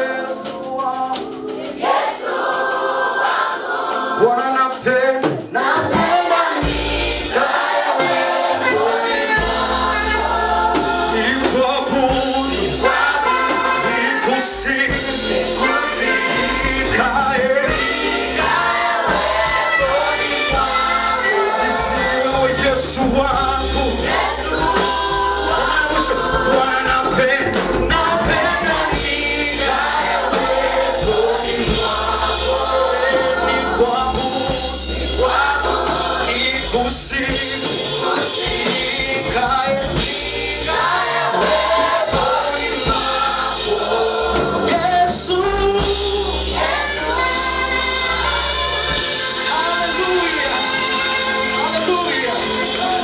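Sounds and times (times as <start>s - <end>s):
band accompaniment with bass: 0.0s - 53.0s
choir singing gospel music: 0.0s - 53.0s.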